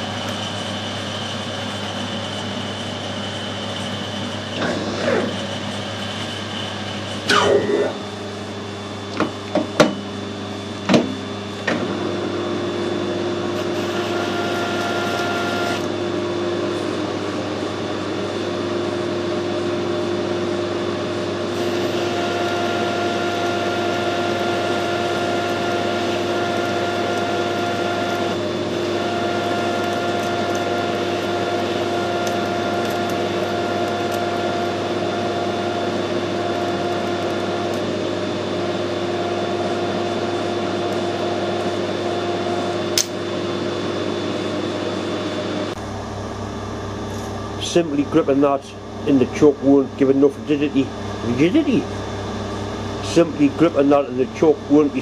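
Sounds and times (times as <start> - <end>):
harsh metal cutting: 0.0 - 8.6, 11.8 - 46.0, 47.2 - 55.0
metal lathe humming: 0.0 - 55.0.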